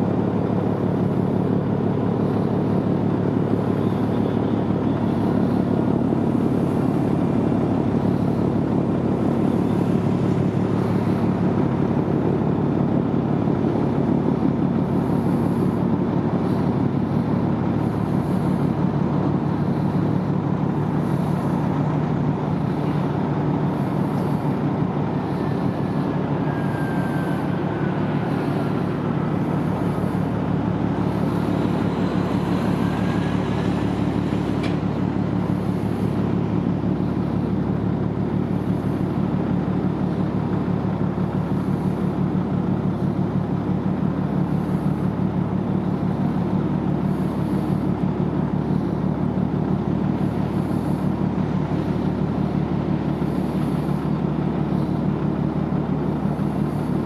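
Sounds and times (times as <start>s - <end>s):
ship engine drone: 0.0s - 57.0s.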